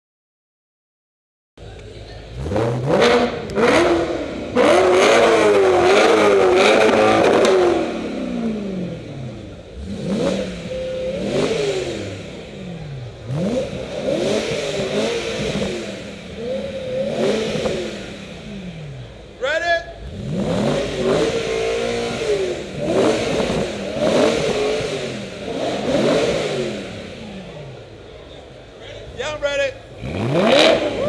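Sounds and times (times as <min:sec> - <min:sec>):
car engine revving: 0:01.6 - 0:31.0.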